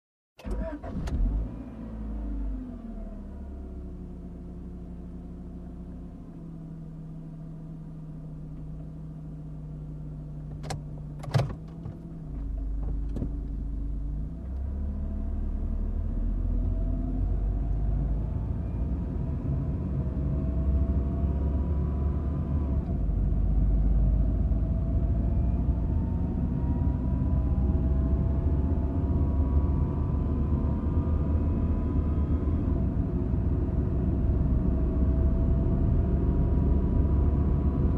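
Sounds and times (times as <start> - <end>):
car engine idling and accelerating: 0.4 - 37.9.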